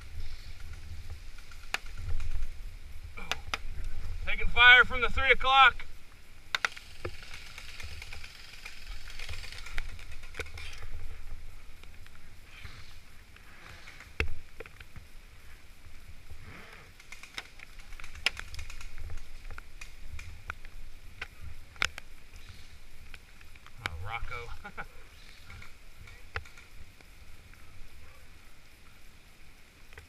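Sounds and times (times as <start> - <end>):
low rumble and hiss: 0.0 - 30.0.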